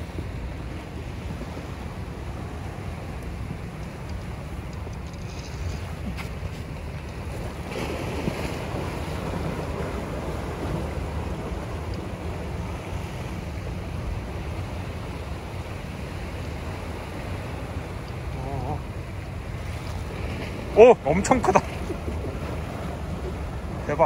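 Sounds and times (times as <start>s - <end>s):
water lapping against boat: 0.0s - 24.0s.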